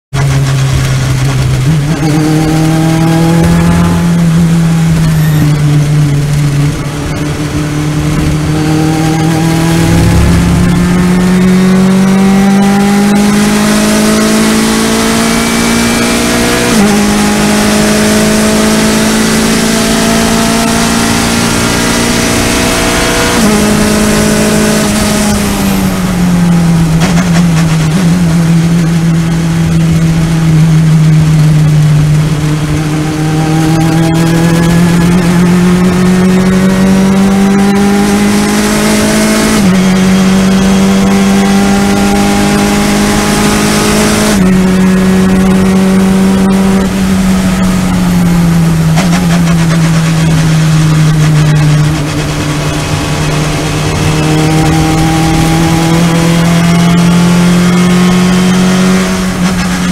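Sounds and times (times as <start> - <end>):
race car engine accelerating: 0.1 - 59.9
wind and road rush: 0.1 - 59.9.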